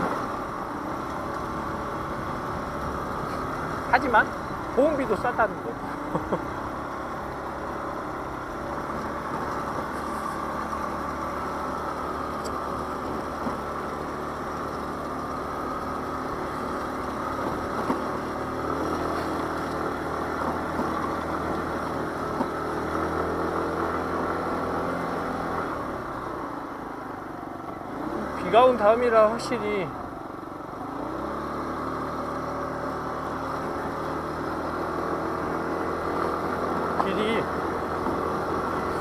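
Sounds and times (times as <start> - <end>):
scooter engine running: 0.0 - 39.0.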